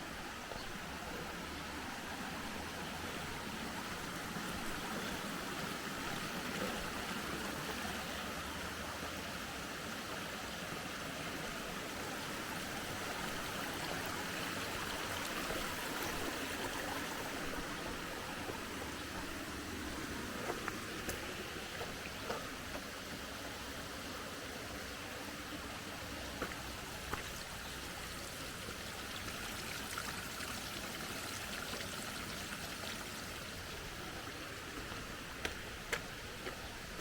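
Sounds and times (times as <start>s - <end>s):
flowing water rushing: 0.0s - 37.0s.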